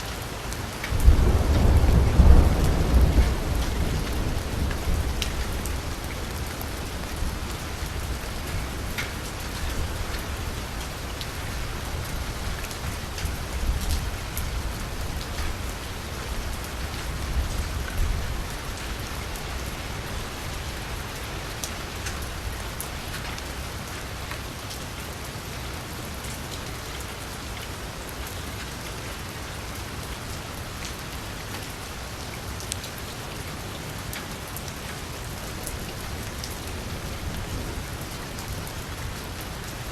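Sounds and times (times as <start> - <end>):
rain falling on a street: 0.0 - 39.9.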